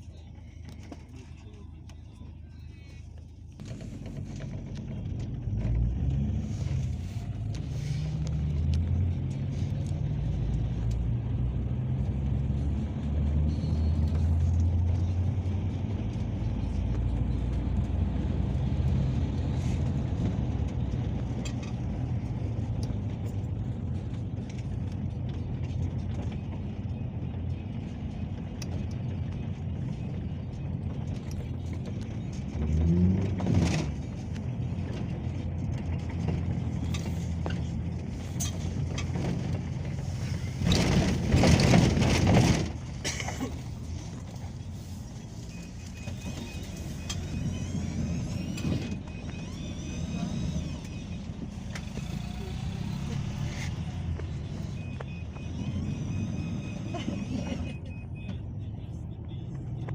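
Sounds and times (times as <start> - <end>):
minibus engine drone: 0.0 - 59.9
road noise: 0.0 - 59.9.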